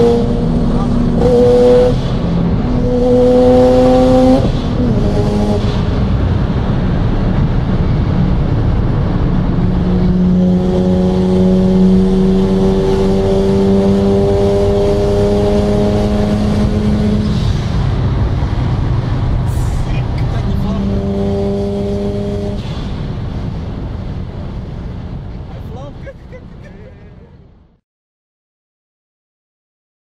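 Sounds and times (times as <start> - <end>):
car engine accelerating: 0.0 - 27.6.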